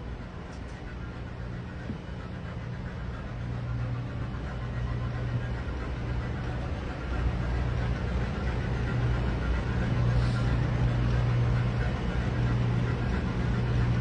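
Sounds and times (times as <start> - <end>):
engine-room machinery drone: 0.0 - 14.0.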